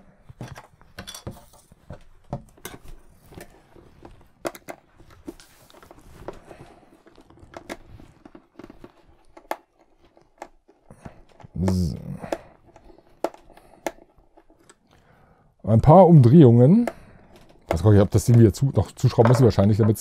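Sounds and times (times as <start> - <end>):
plastic helmet clicks and scrapes: 0.2 - 15.0, 16.6 - 20.0.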